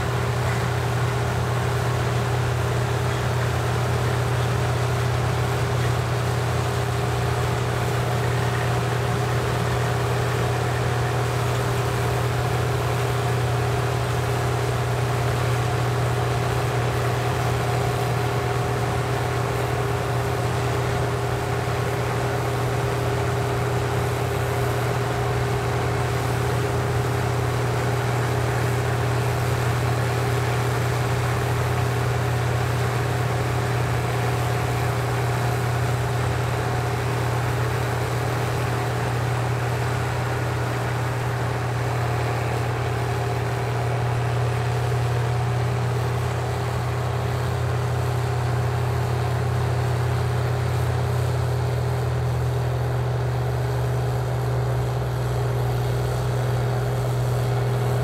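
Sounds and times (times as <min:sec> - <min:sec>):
diesel engine drone: 0:00.0 - 0:58.0
threshing machinery hum: 0:00.0 - 0:58.0.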